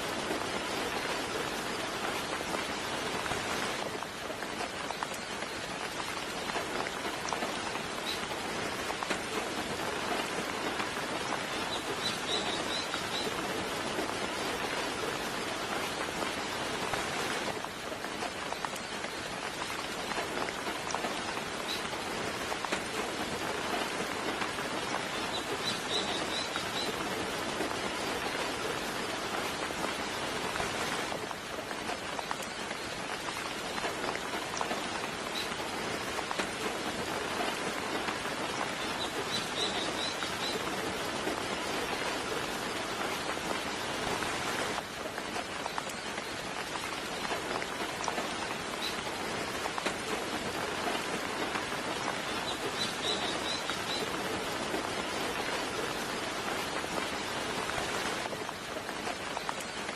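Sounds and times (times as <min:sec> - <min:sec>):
soft steady rain: 0:00.0 - 0:59.9.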